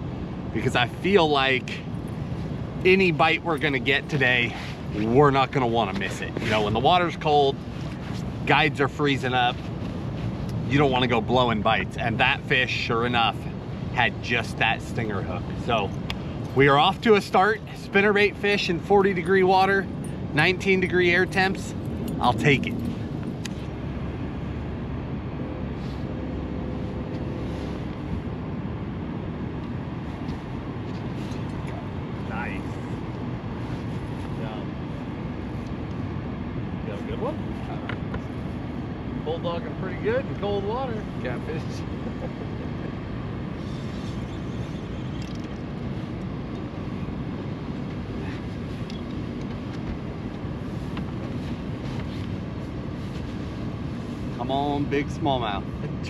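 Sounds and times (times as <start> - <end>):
faint hum: 0.0 - 56.0
wind: 0.0 - 56.0.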